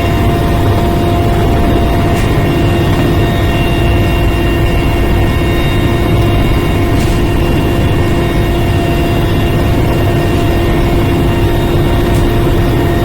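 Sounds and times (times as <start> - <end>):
helicopter engine and rotor: 0.0 - 13.0.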